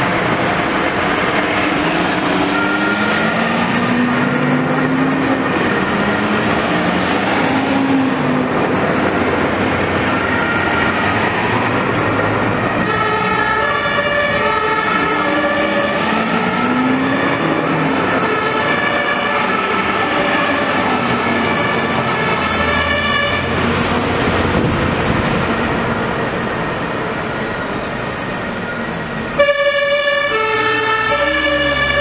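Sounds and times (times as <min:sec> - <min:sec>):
two-tone fire engine sirens: 0:00.0 - 0:32.0.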